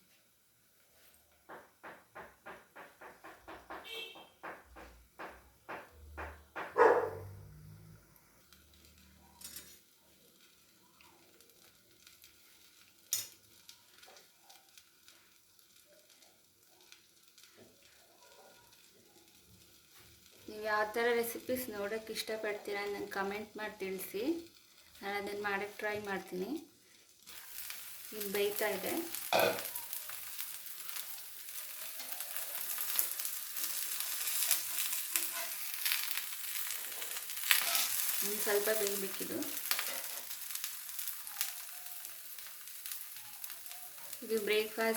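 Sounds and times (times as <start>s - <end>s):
roti sizzling in ghee: 0.0s - 44.9s.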